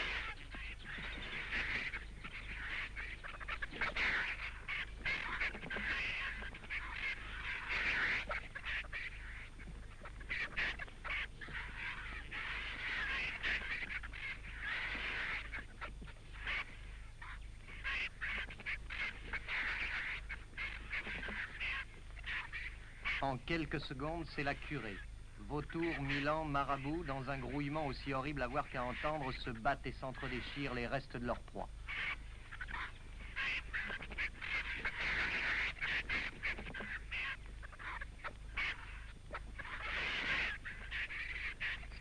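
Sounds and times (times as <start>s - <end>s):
vultures squawking harshly: 0.0s - 42.0s.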